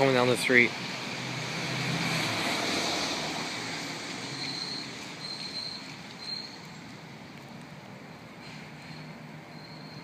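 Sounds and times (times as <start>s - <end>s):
car passing: 0.0s - 10.0s.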